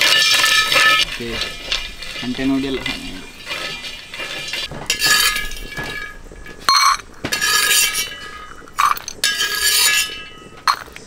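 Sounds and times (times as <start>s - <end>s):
beans rattling in metal pan: 0.0s - 11.0s
spoon scraping ringing pan: 0.0s - 11.0s.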